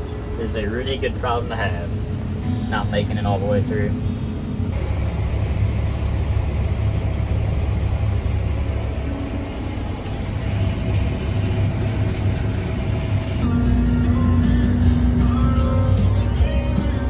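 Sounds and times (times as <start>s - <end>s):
diesel engine low hum: 0.0s - 17.0s.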